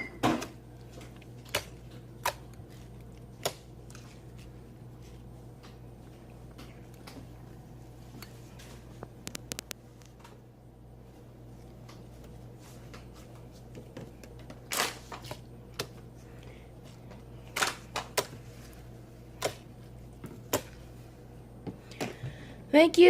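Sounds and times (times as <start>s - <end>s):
slime squishing: 0.6s - 10.1s, 11.5s - 21.6s.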